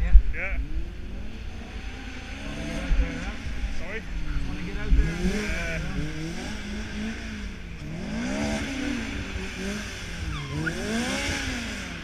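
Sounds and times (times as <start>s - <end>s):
low steady rumble: 0.0s - 12.0s
car engine revving: 0.3s - 12.0s.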